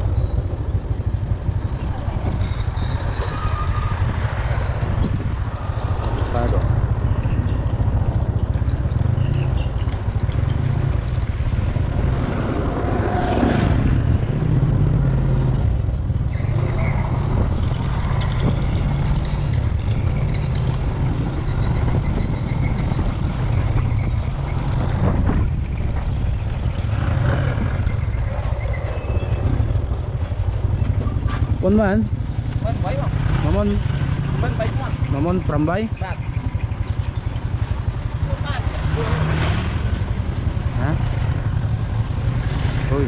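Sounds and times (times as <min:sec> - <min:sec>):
passing traffic: 0:00.0 - 0:43.0
scooter engine and road rumble: 0:00.0 - 0:43.0.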